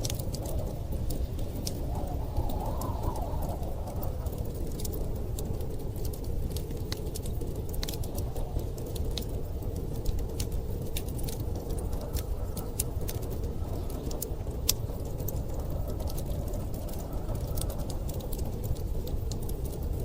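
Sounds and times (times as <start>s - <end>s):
storm wind rumbling: 0.0s - 20.0s
wood fire crackling: 0.0s - 20.0s.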